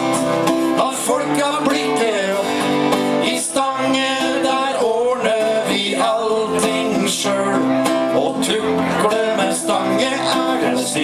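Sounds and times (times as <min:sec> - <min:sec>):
acoustic guitars strummed: 0:00.0 - 0:11.0
man singing: 0:00.6 - 0:11.0.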